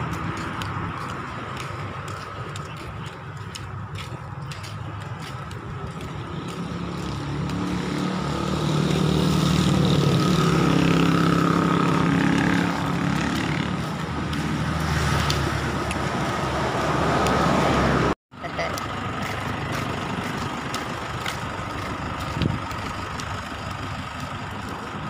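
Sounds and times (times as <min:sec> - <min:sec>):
road traffic: 0:00.0 - 0:25.0
vehicle engine passing: 0:00.0 - 0:25.0.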